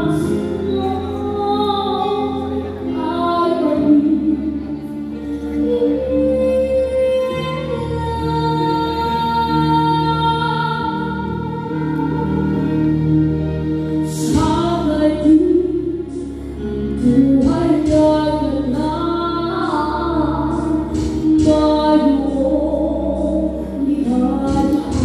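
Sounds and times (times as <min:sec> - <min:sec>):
woman singing into a microphone: 0:00.0 - 0:13.1, 0:14.1 - 0:25.0
instrumental backing music: 0:00.0 - 0:25.0.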